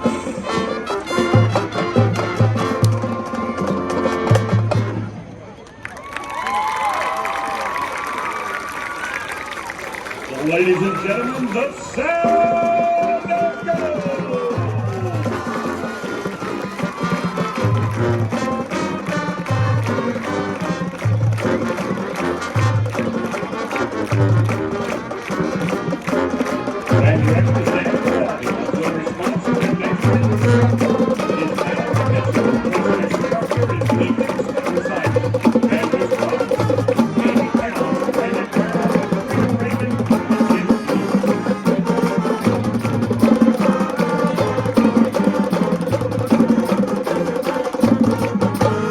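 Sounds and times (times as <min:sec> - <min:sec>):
drumline beat: 0:00.0 - 0:05.0, 0:10.3 - 0:48.9
marching band playing: 0:00.0 - 0:05.5, 0:06.4 - 0:48.9.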